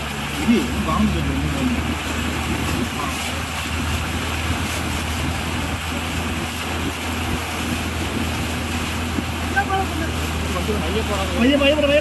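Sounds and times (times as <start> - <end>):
van engine running: 0.0 - 12.0
water splashing around tyres: 0.0 - 12.0.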